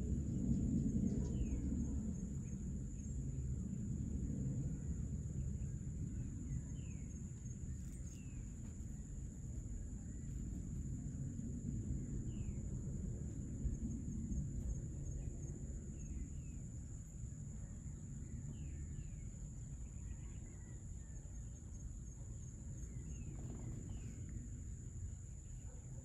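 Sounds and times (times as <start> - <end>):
insects droning: 0.0 - 26.0
low background rumble: 0.0 - 26.0.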